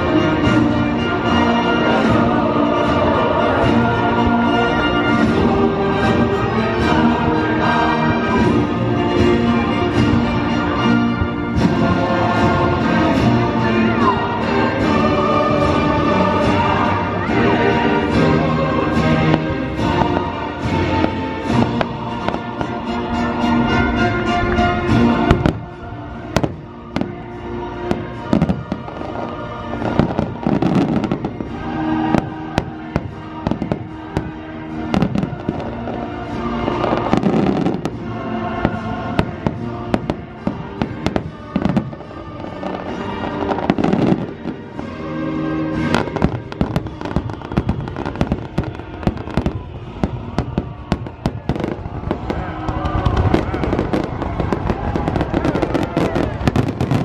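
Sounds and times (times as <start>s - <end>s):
fireworks bangs and crackling: 0.0s - 57.0s
orchestral music over loudspeakers: 0.0s - 57.0s.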